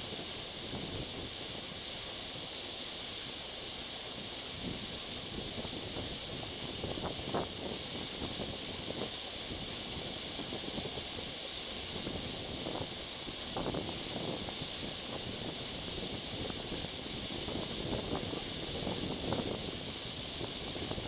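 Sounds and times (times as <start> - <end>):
waterfall pouring onto rocks: 0.0 - 21.0.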